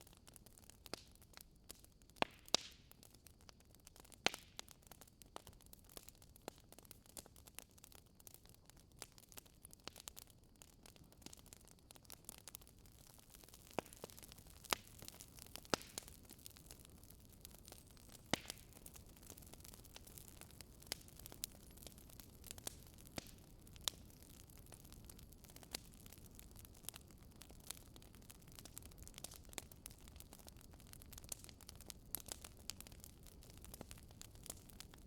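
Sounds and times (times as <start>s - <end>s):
burning wood crackling: 0.0s - 35.0s
soft steady hiss: 0.0s - 35.0s.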